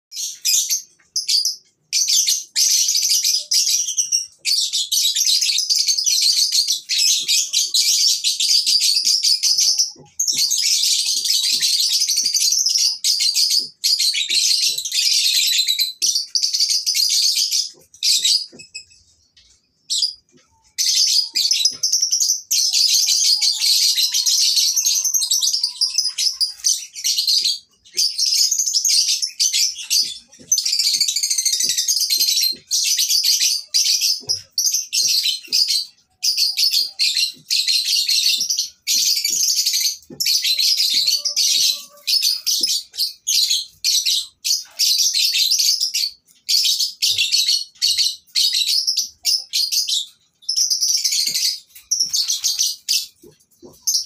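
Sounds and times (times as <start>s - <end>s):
lovebirds chattering shrill trills: 0.2s - 54.0s.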